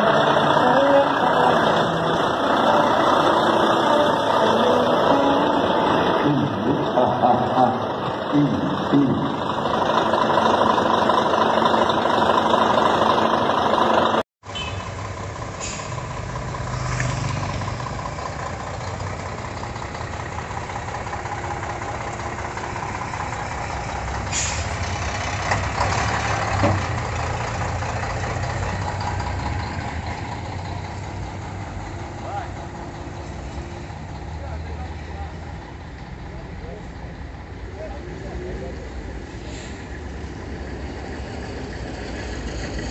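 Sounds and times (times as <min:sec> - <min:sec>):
truck diesel engine idling: 0:00.0 - 0:16.8, 0:17.5 - 0:42.9.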